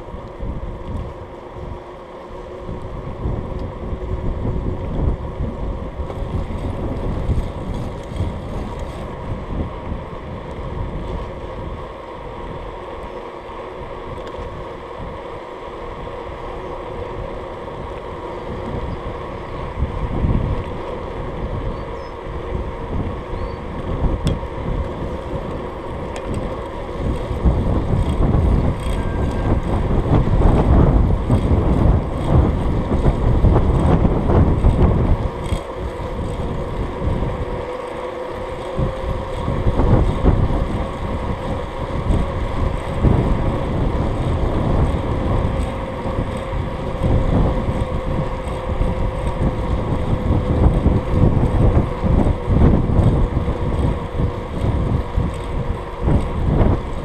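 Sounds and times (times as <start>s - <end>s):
bicycle tyres rumbling on road: 0.0s - 57.0s
wind buffeting microphone: 0.0s - 57.0s.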